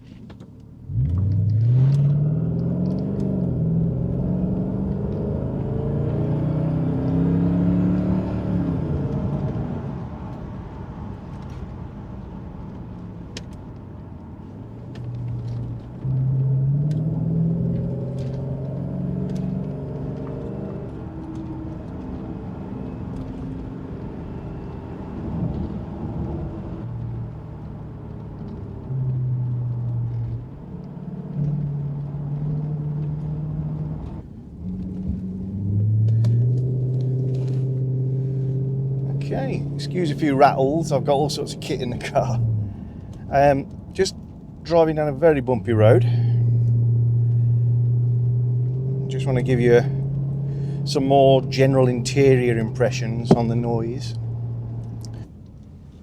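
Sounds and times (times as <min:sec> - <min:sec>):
car engine accelerating: 0:00.6 - 0:56.0.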